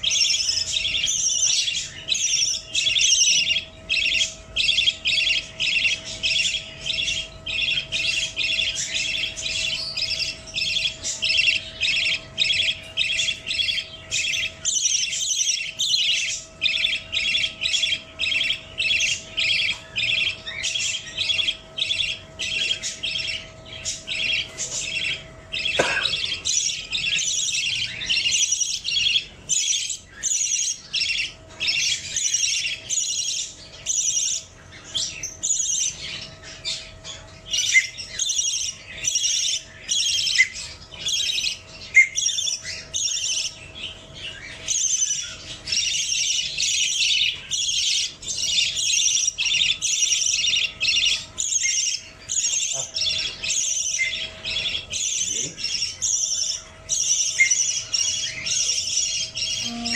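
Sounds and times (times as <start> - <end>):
budgie chirping and squawking: 0.0 - 59.9.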